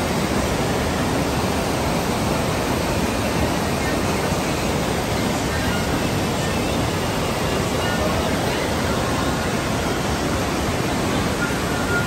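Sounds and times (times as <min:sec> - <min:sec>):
river rushing through rapids: 0:00.0 - 0:12.0.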